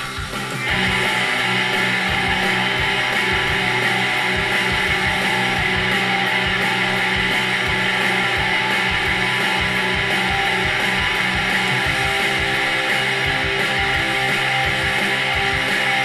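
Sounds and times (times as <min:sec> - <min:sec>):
electric guitar: 0:00.0 - 0:16.0
hard rock music through speakers: 0:00.0 - 0:16.0
steady drum beat: 0:00.0 - 0:16.0.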